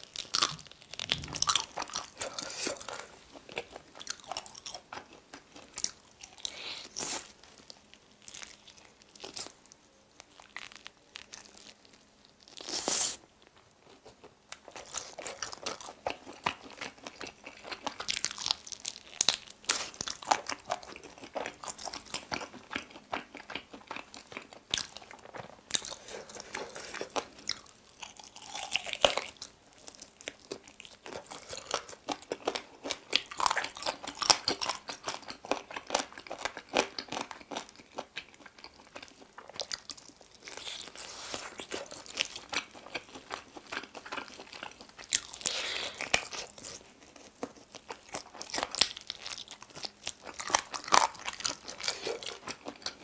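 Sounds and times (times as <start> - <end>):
person chewing chicken: 0.0 - 53.0.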